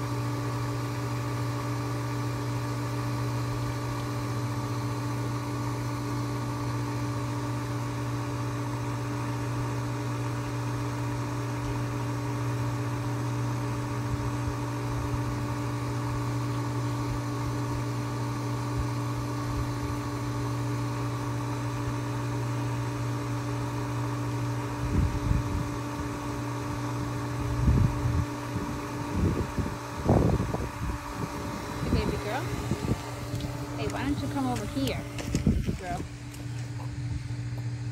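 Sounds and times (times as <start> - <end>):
pool pump motor humming: 0.0 - 37.9.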